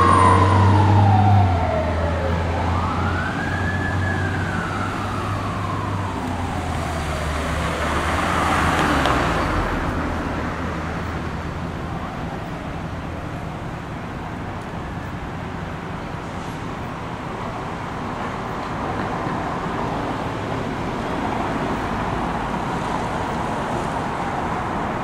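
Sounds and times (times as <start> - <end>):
emergency vehicle siren wailing: 0.0 - 25.0
heavy engine hum: 0.0 - 25.0
passing vehicles rushing: 0.0 - 25.0.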